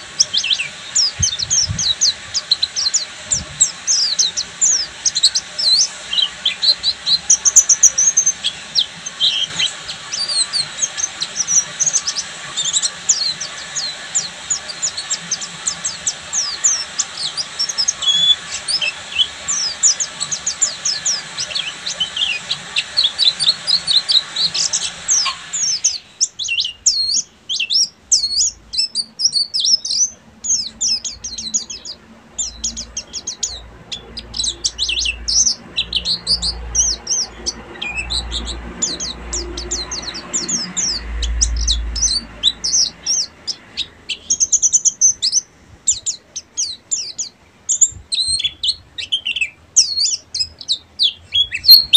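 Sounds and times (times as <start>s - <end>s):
steady hiss: 0.0s - 48.2s
bird twittering song: 0.0s - 51.9s.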